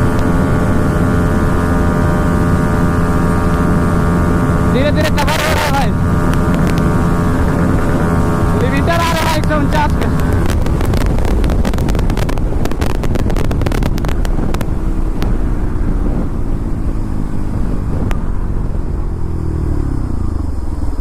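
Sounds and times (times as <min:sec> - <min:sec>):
heavy wind rumble: 0:00.0 - 0:21.0.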